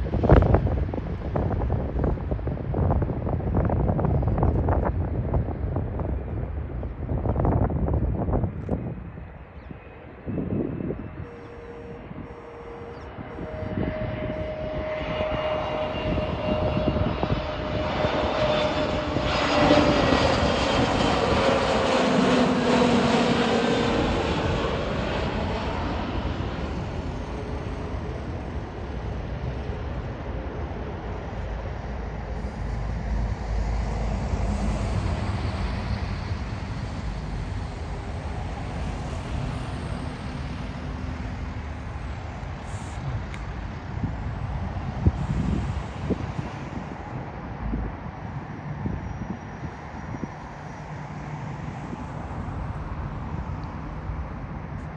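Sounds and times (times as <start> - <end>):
jet airliner passing: 0.0 - 54.9
wind buffeting microphone: 0.0 - 54.9.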